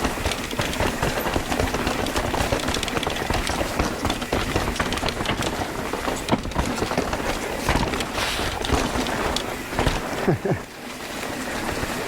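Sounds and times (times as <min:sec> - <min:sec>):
bike rattling and clicking: 0:00.0 - 0:12.0
bike tyres on rough trail: 0:00.0 - 0:12.0.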